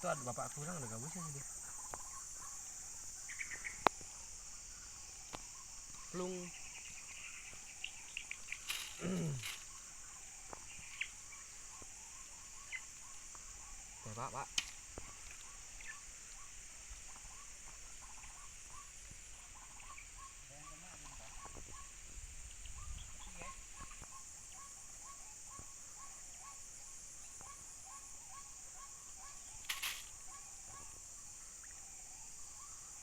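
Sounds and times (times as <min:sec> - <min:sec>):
high-pitched insect drone: 0:00.0 - 0:21.6, 0:23.0 - 0:33.0.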